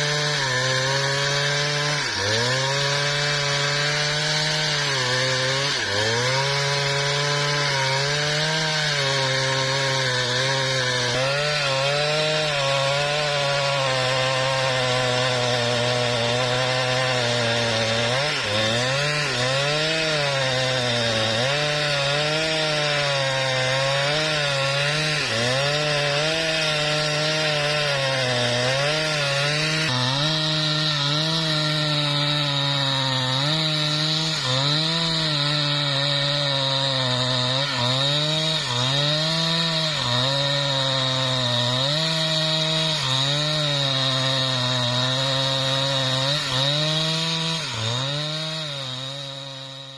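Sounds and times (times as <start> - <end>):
chainsaw cutting through log: 0.0 - 49.9.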